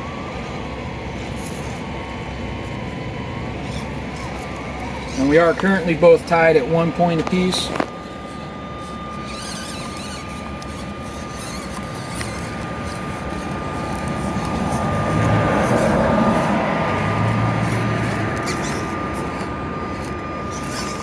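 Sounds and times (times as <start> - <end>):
small electric motors whirring: 0.0 - 21.0
steady high whine: 0.0 - 21.0.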